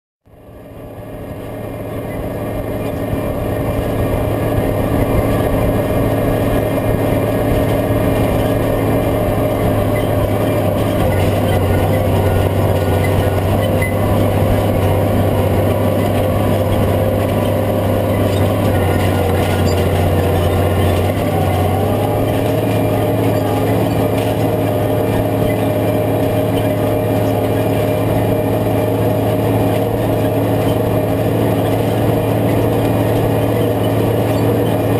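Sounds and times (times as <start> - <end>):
tractor diesel engine under load: 0.3 - 34.9.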